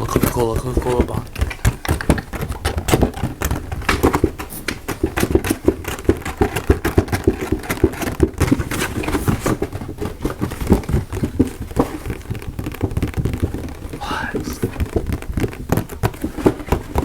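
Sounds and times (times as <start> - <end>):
rapid tapping on a box: 0.0 - 14.0, 14.6 - 17.0.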